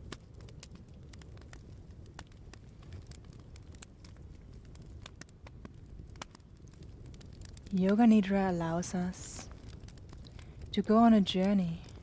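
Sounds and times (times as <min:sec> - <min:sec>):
low rumble of flames: 0:00.0 - 0:12.0
wood fire popping and snapping: 0:00.0 - 0:12.0.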